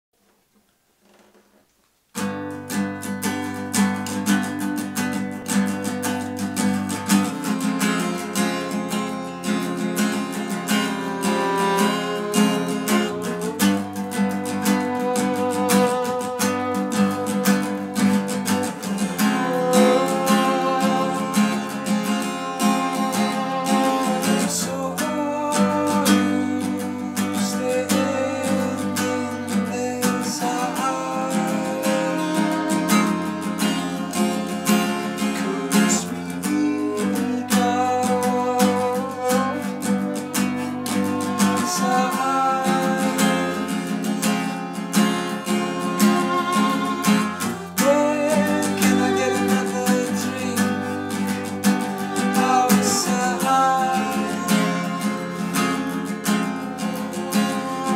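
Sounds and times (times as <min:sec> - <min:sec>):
strummed acoustic guitar: 0:02.1 - 0:57.9
violin melody: 0:03.4 - 0:57.9.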